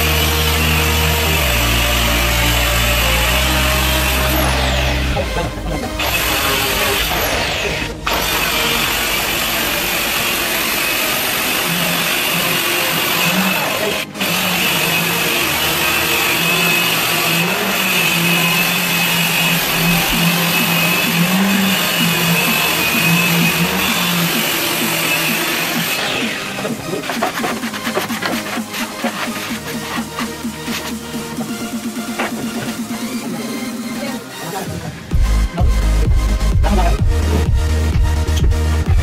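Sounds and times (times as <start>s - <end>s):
marble cutter grinding whine: 0.0s - 39.0s.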